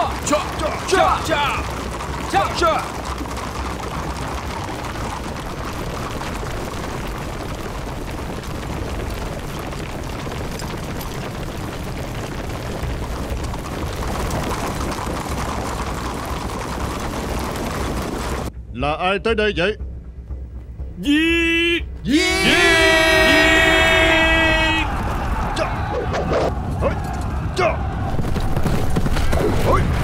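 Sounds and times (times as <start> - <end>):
armoured soldiers running: 0.0 - 18.5, 22.1 - 30.0
horses galloping on stone: 0.0 - 18.5, 22.1 - 27.4, 28.0 - 30.0.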